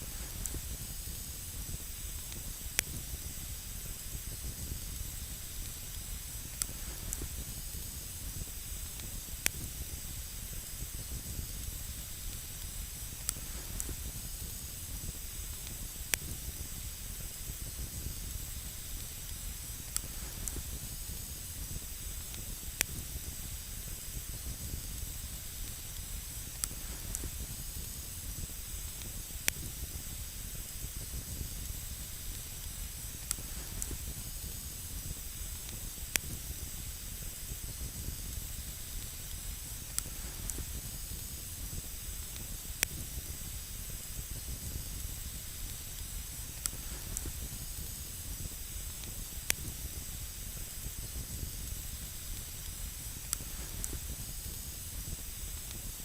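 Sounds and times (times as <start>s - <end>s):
campfire burning: 0.0s - 56.0s
sharp crackling pops: 0.0s - 56.0s.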